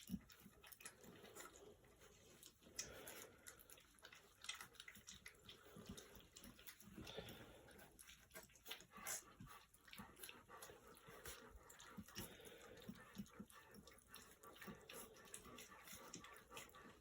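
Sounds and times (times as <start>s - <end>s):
puppies lapping and smacking: 0.0s - 17.0s.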